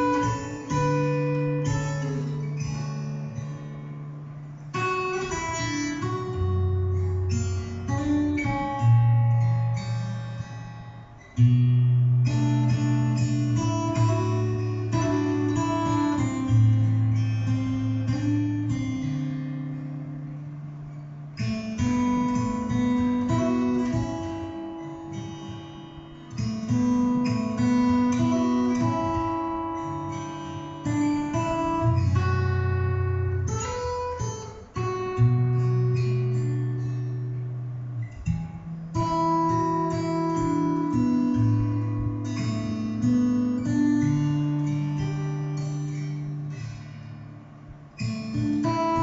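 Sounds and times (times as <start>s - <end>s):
acoustic guitar strumming: 0.0s - 49.0s.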